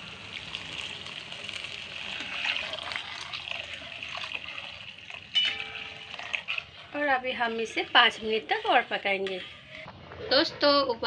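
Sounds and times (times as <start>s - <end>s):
milk splashing and bubbling: 0.0s - 9.7s.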